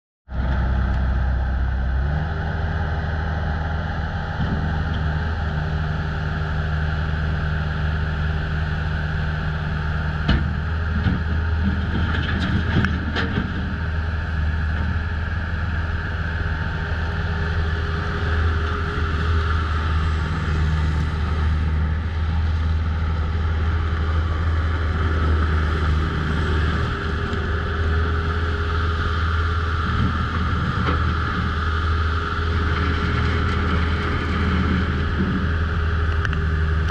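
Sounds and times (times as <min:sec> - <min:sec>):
diesel engine running: 0:00.3 - 0:36.9.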